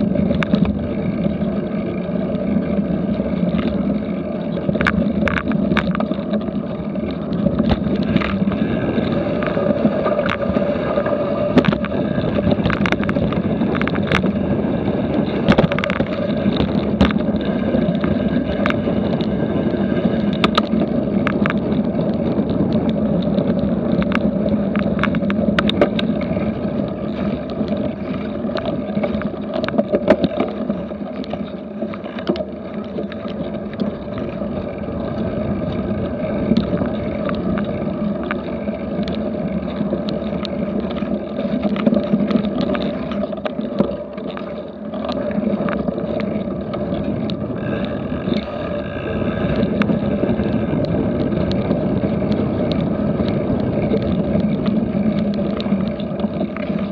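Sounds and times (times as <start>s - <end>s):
bike clicks and rattles: 0.0s - 56.9s
bike tyres rumbling on trail: 0.0s - 56.9s.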